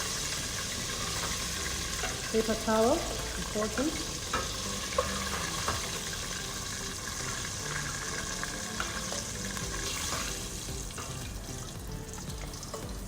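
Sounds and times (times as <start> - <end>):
chicken deep-frying in oil: 0.0 - 13.0
oil crackling: 0.0 - 13.0.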